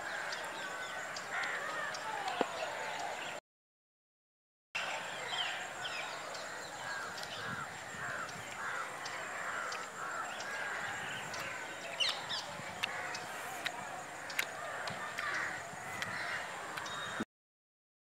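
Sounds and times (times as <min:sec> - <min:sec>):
birds calling: 0:00.0 - 0:03.4, 0:04.8 - 0:17.2
outdoor background noise: 0:00.0 - 0:03.4, 0:04.8 - 0:17.3.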